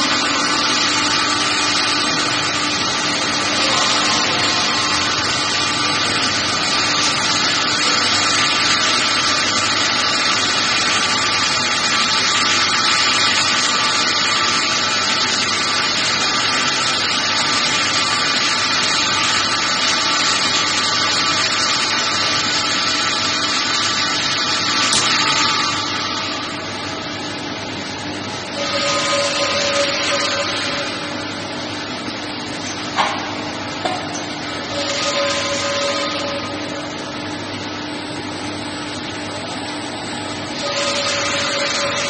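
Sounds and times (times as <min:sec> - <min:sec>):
continuous machinery hiss: 0:00.0 - 0:42.0
steady humming tones: 0:00.0 - 0:42.0.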